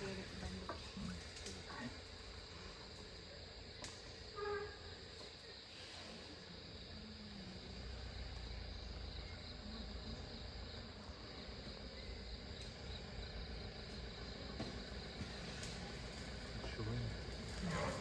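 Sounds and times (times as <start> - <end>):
forest insects chirring: 0.0 - 18.0.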